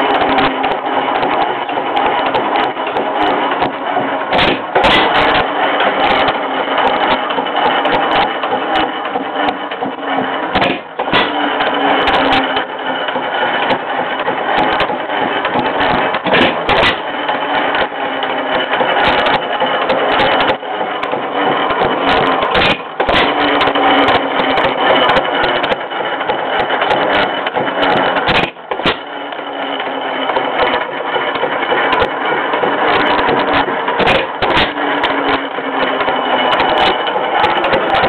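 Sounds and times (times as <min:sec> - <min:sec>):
engine mechanical clatter: 0:00.0 - 0:38.0.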